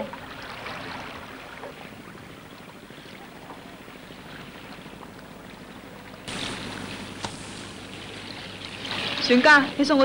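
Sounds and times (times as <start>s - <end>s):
water at the shore: 0.0s - 10.0s.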